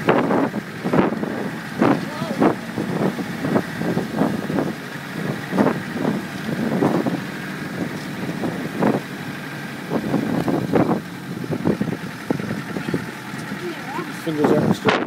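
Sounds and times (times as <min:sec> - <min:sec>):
car engine running: 0:00.0 - 0:15.0
vehicle body knocking and rattling: 0:00.0 - 0:15.0.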